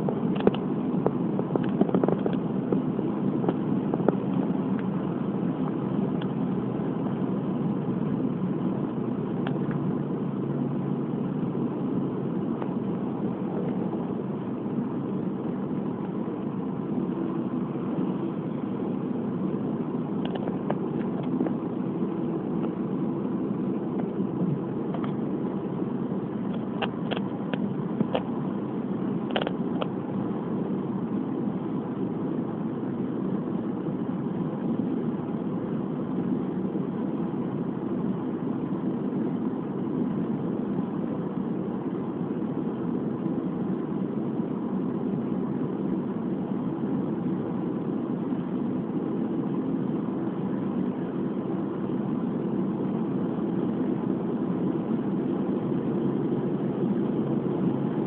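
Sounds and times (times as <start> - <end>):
car engine and tyres humming: 0.0 - 58.0.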